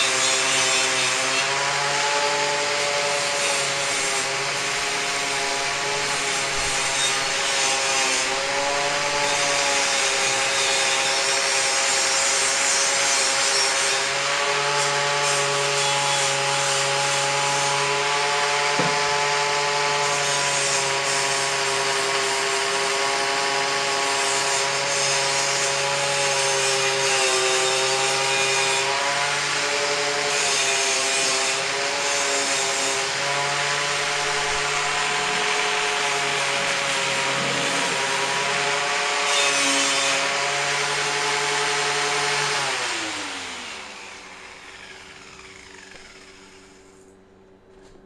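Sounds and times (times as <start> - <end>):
angle grinder grinding metal: 0.0 - 47.0.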